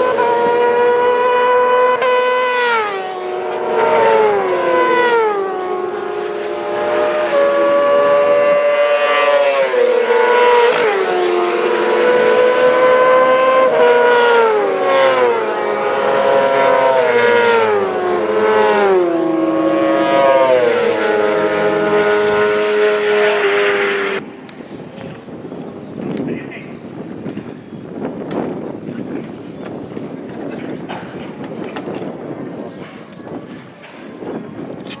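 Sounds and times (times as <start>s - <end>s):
racing sidecars at high revs: 0.0s - 24.4s, 25.0s - 35.0s.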